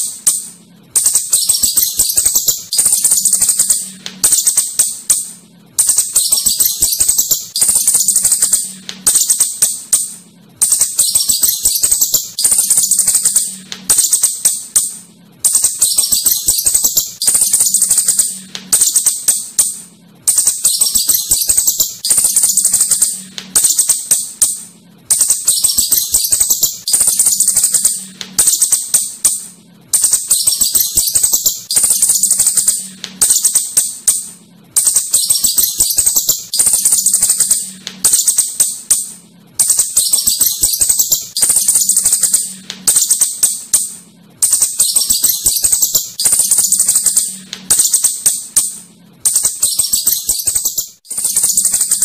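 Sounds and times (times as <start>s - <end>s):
shrew clicking chatter: 0.0s - 52.0s.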